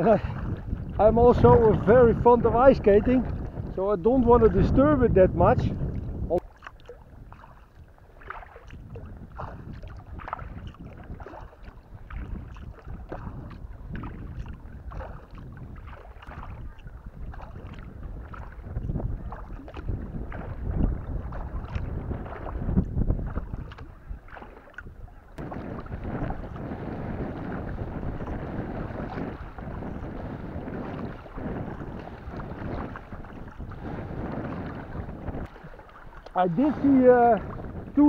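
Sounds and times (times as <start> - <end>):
water lapping against kayak hull: 0.0 - 38.0
wind rumbling on microphone: 0.0 - 38.0.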